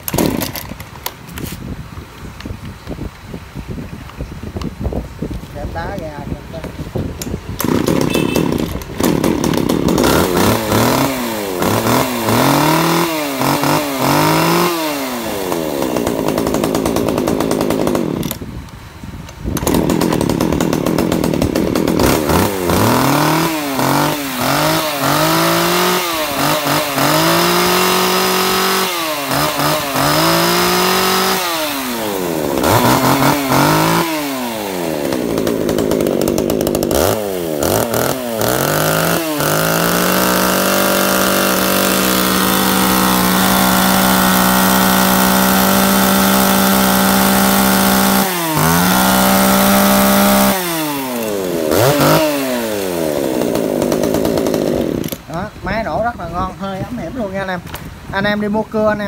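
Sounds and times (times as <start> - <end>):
chainsaw revving: 0.0 - 0.9, 7.6 - 18.5, 19.4 - 57.8.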